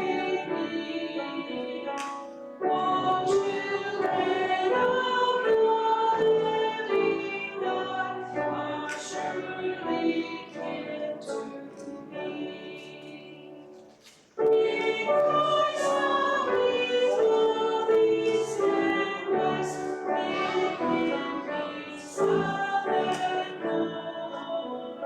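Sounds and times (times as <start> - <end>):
voices singing a hymn: 0.0 - 25.0.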